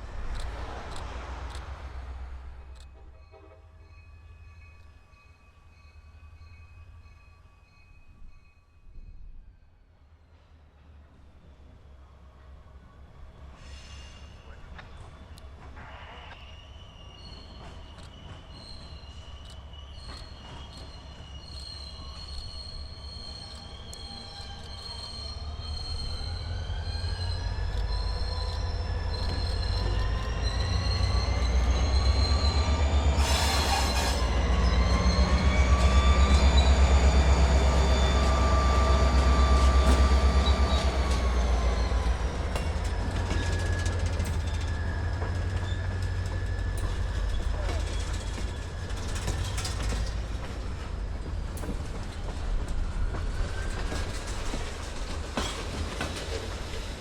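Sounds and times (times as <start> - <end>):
locomotive engine rumble and whine: 0.0 - 8.4, 14.2 - 57.0.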